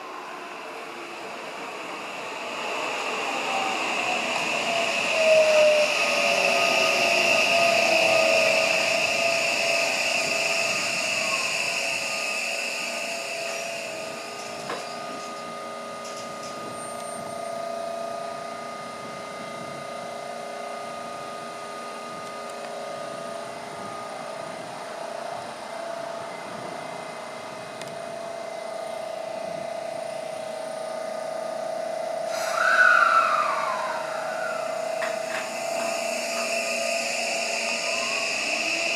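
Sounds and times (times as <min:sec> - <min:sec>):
electric train humming: 0:00.0 - 0:38.9.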